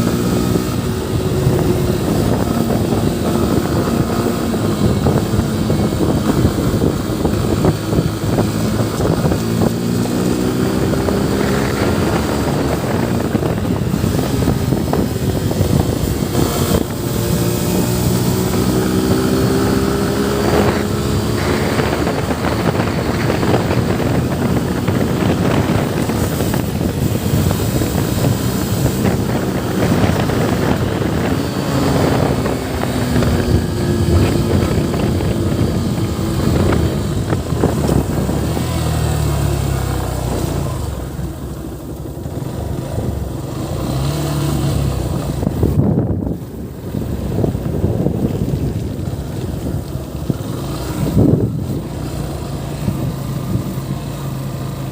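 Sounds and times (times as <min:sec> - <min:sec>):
motorcycle engine accelerating: 0:00.0 - 0:54.9
wind buffeting microphone: 0:00.0 - 0:54.9.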